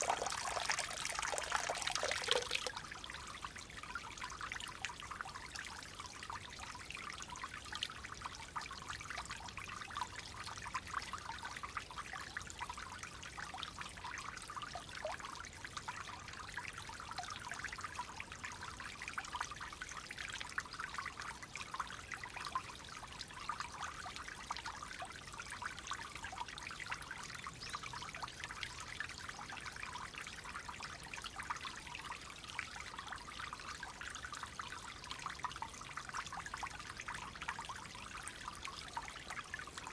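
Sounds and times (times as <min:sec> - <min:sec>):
shallow water trickling over stones: 0:00.0 - 0:39.9.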